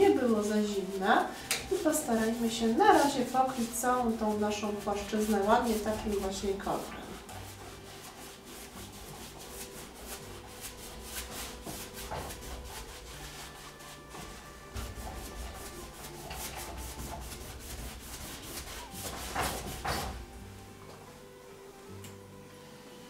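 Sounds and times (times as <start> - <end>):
paintbrush scrubbing on canvas: 0.0 - 20.4
soft background music: 0.0 - 23.0.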